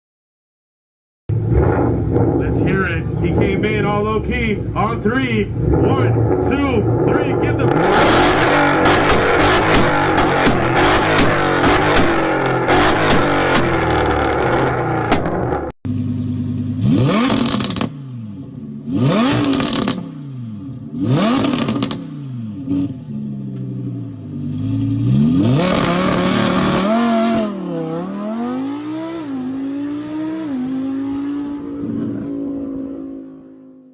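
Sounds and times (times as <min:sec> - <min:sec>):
sports car engine revving: 0:01.3 - 0:33.9.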